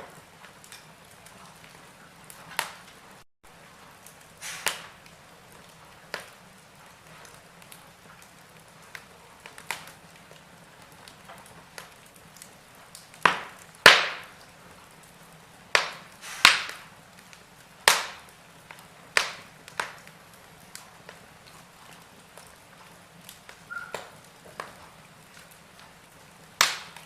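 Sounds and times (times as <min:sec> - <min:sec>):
burning logs popping and snapping: 0:00.0 - 0:27.0
faint fire hiss: 0:00.0 - 0:27.0.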